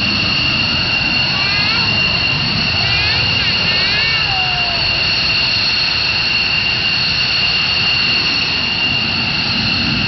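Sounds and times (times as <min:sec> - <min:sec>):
loud steady rushing noise: 0:00.0 - 0:10.0.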